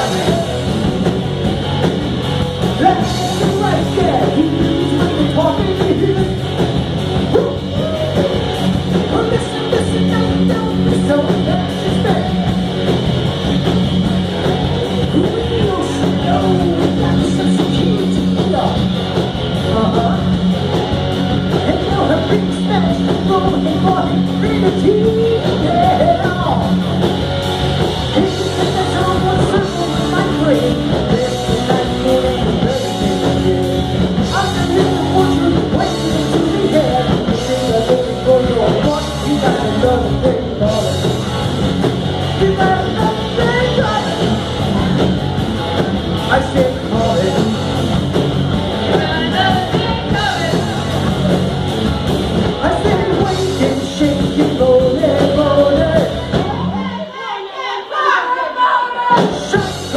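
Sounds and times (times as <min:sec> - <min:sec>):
drum kit: 0:00.0 - 0:57.0, 0:59.0 - 0:59.9
electric guitar: 0:00.0 - 0:57.1, 0:59.0 - 0:59.9.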